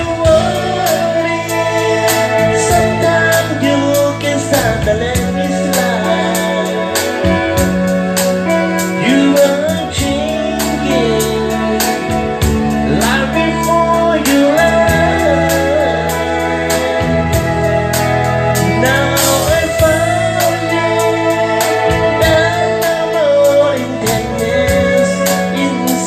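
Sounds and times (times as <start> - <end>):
band playing: 0.0 - 26.0
person singing: 0.0 - 26.0
steady drum beat: 0.0 - 26.0.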